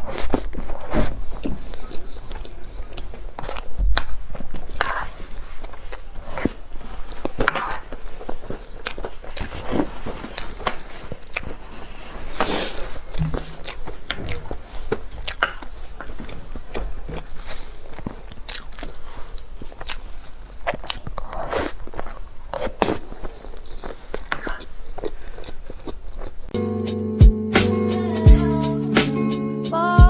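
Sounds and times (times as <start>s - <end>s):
person chewing food: 0.0s - 26.6s.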